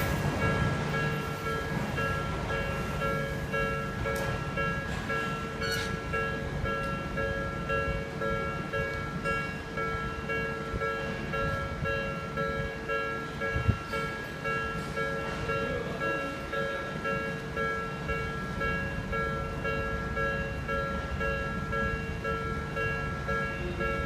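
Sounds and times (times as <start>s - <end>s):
railroad crossing warning bell: 0.0s - 24.0s
train rumbling: 0.0s - 24.0s.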